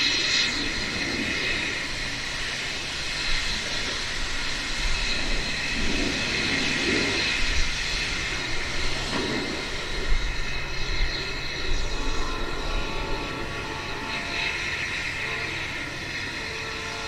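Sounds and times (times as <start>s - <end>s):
high steam hiss: 0.0s - 17.0s
steam locomotive chuffs: 0.0s - 17.0s.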